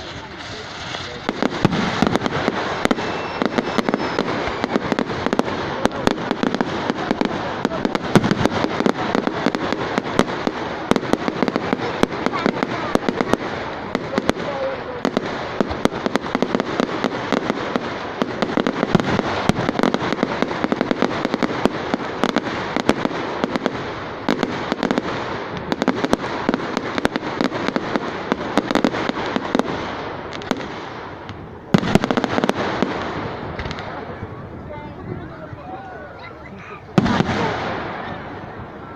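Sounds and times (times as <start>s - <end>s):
fireworks crackling and banging: 0.0s - 38.9s.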